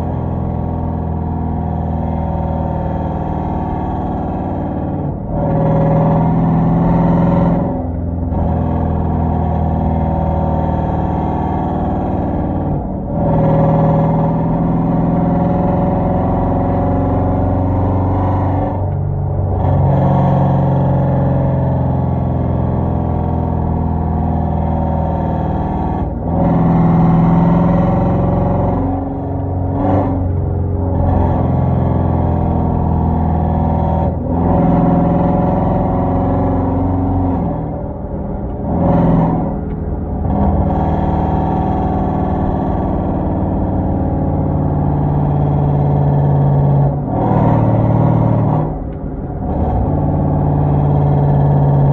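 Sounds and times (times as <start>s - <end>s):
loud car exhaust: 0.0s - 51.9s.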